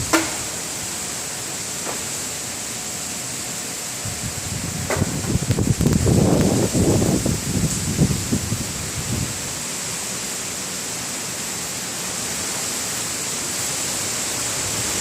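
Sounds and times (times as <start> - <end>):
heavy rain and wind: 0.0 - 15.0.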